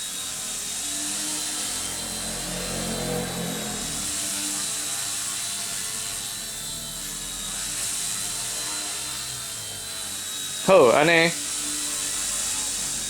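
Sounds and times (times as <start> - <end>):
high motor whine: 0.0 - 13.0
toy helicopter rotor whirring: 0.0 - 13.0.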